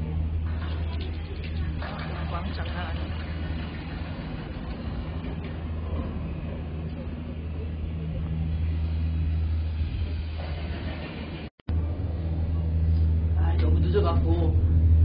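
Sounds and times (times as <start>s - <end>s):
faint voices: 0.0s - 14.9s
low machinery hum: 0.0s - 15.0s.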